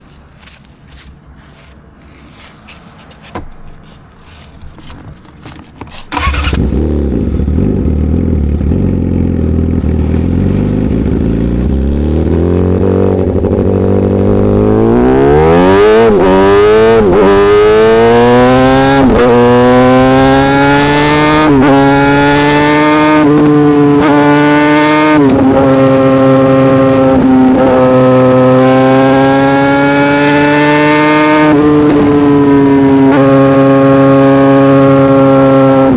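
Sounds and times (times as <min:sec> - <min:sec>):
motorcycle engine starting and revving: 0:03.4 - 0:35.9.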